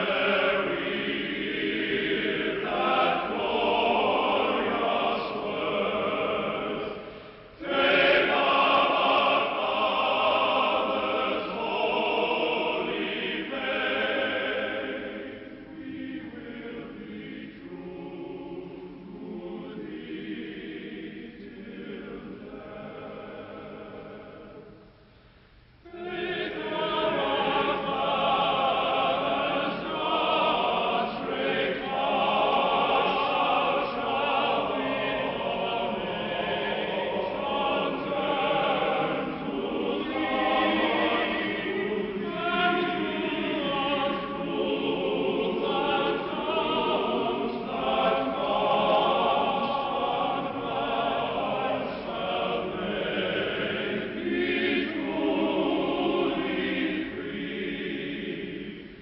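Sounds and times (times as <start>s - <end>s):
male choir singing in harmony: 0.0s - 24.8s, 25.8s - 59.0s.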